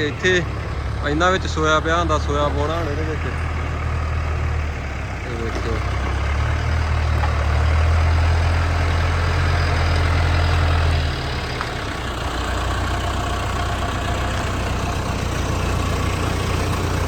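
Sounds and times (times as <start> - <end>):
heavy machinery engine humming: 0.0 - 17.0.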